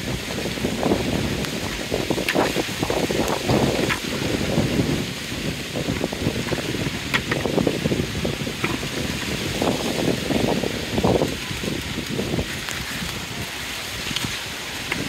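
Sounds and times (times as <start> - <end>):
gusty wind on microphone: 0.0 - 15.0.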